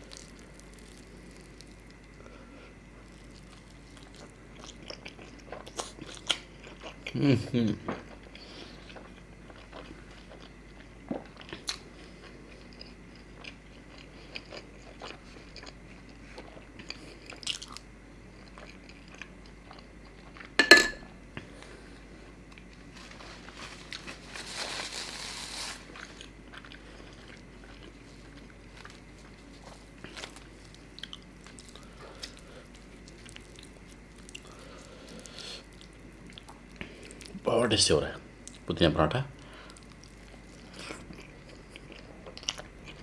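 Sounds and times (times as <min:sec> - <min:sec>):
person chewing and biting: 0:00.0 - 0:02.2, 0:02.9 - 0:07.2, 0:08.0 - 0:20.6, 0:25.0 - 0:37.4, 0:39.3 - 0:43.0.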